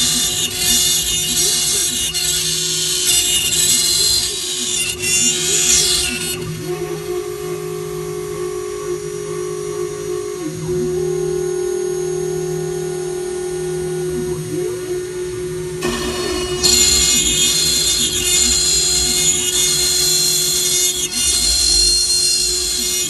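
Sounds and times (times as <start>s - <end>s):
router bit cutting wood hiss: 0.0s - 10.6s, 13.0s - 23.0s
motors gliding tones: 0.0s - 23.0s
router spindle whine: 0.0s - 23.0s.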